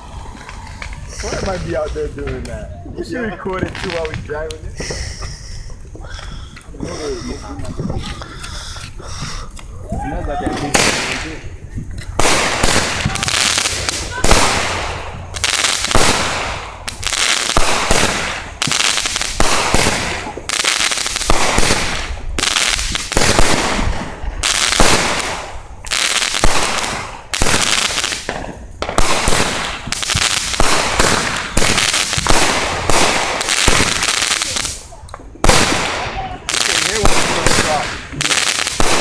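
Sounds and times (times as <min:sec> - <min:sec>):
fireworks bangs with crackle: 0:03.4 - 0:09.7, 0:10.5 - 0:39.0.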